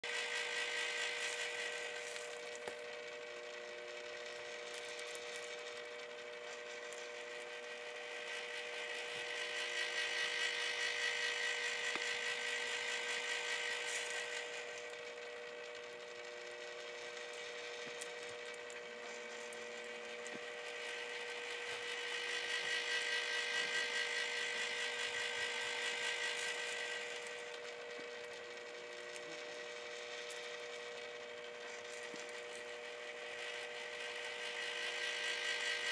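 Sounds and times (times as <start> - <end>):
rotisserie motor humming: 0.0 - 35.9.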